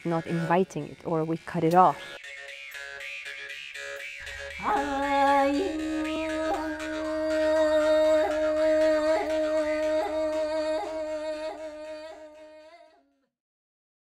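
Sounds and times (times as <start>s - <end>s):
jaw harp drone: 0.0s - 13.0s.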